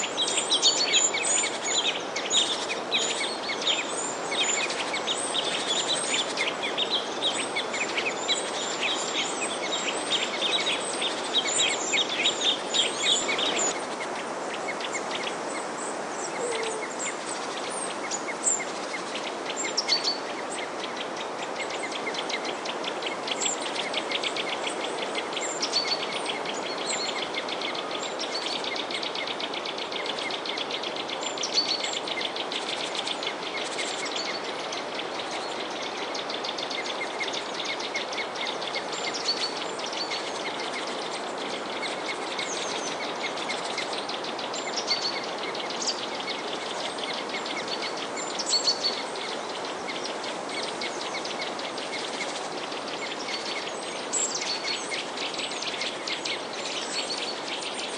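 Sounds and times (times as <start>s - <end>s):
songbirds chirping: 0.0s - 57.9s
steady background hiss: 0.0s - 57.9s.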